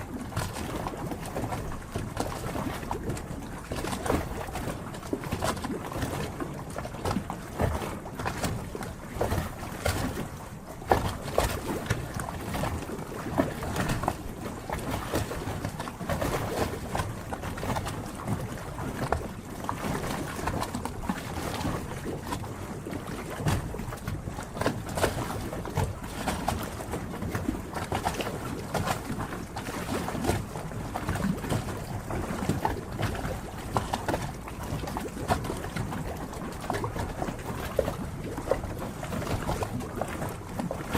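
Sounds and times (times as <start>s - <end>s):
water lapping and splashing: 0.0s - 40.9s.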